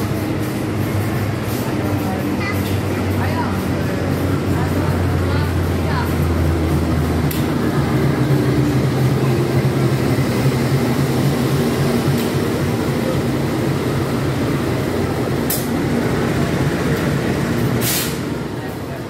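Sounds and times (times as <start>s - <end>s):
coach rumbling over rails: 0.0s - 19.0s
locomotive engine running: 0.0s - 19.0s.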